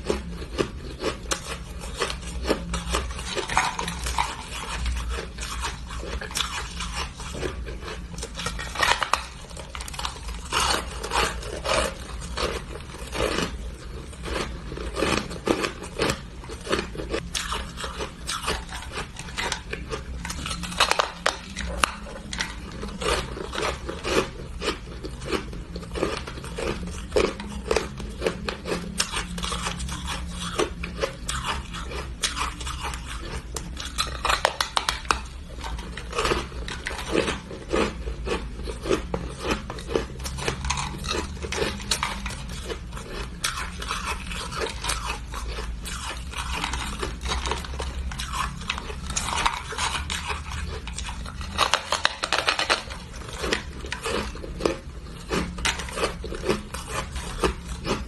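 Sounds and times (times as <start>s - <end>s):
ice crunching in mouth: 0.0s - 58.0s.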